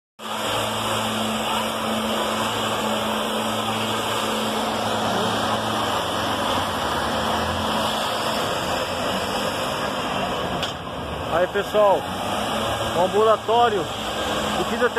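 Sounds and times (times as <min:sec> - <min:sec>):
engine sprayer drone: 0:00.2 - 0:14.9.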